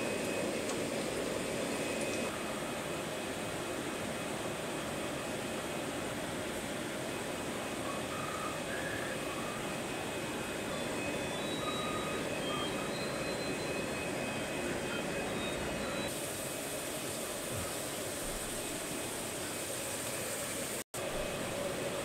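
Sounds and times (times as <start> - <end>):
aquarium aeration hum: 0.0 - 22.0.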